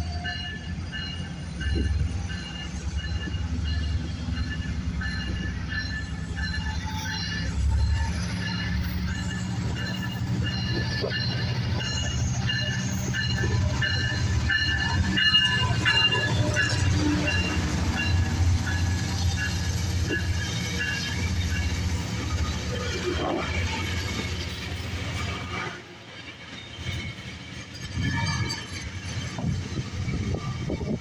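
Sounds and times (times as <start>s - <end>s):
diesel locomotive engine rumble: 0.0s - 31.0s
wheel and brake squeal: 0.0s - 31.0s.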